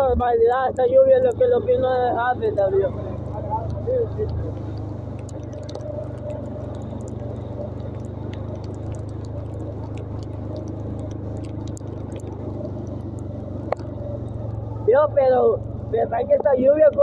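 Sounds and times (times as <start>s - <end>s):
rain pattering: 0.0s - 17.0s
small vehicle engine droning: 0.0s - 17.0s
water splashing: 0.6s - 16.2s.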